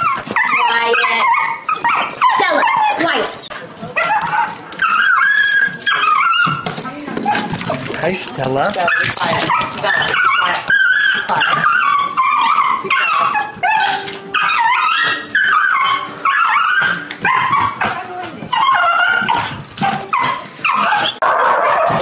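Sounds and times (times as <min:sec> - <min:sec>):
dog whining and yipping: 0:00.0 - 0:22.0.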